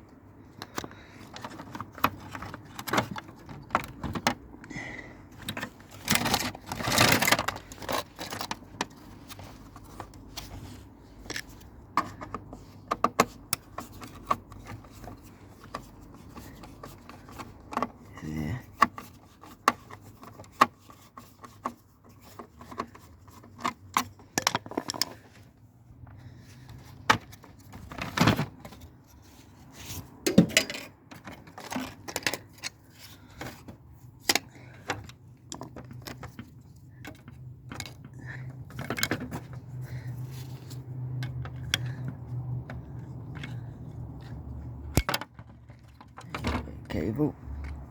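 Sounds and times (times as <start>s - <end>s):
metal and plastic parts clinking: 0.5s - 25.5s, 26.1s - 47.9s.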